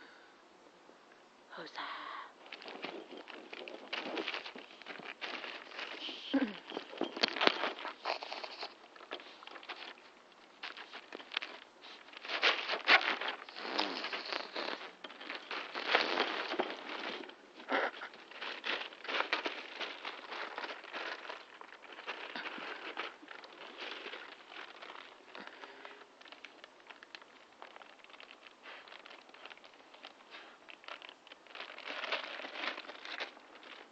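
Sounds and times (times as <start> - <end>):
puppy paws scrabbling on trampoline: 2.4 - 33.9.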